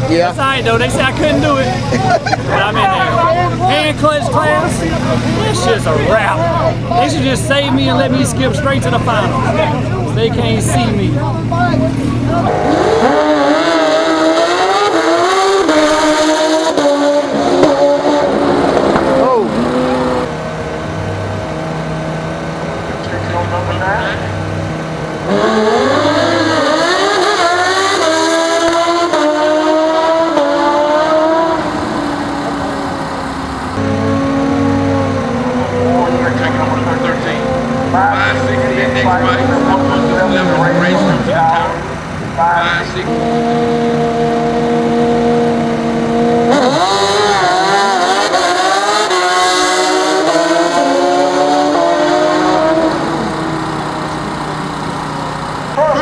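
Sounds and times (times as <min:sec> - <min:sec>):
motorcycle engine at full throttle: 0:00.0 - 0:56.0.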